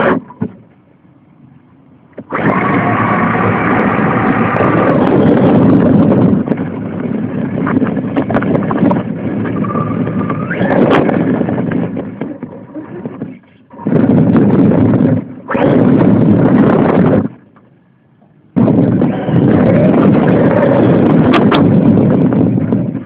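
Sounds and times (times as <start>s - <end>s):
faint motor whine: 0.0s - 23.0s
rumble of drive and wind noise: 0.0s - 23.0s.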